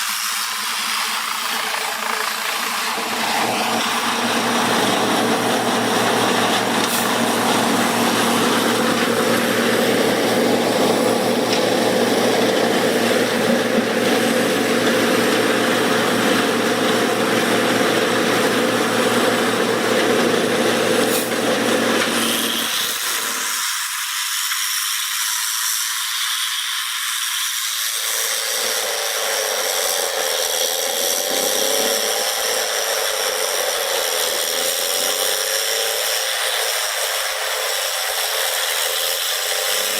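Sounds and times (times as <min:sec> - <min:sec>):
wood-processing machine running: 0:00.0 - 0:23.8, 0:26.4 - 0:39.9.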